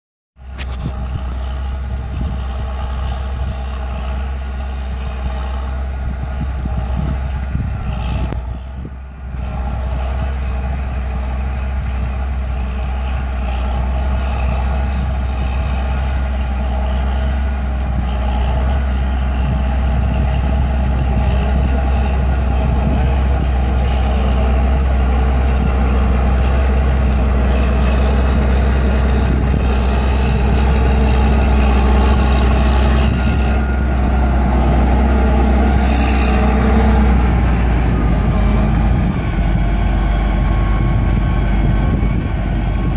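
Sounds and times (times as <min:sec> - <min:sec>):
tractor diesel engine under load: 0:00.4 - 0:42.9.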